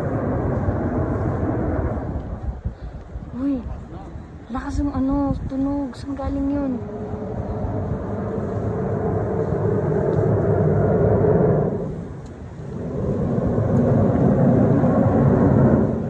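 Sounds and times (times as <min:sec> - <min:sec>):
loud low droning: 0:00.0 - 0:03.4, 0:04.7 - 0:16.0.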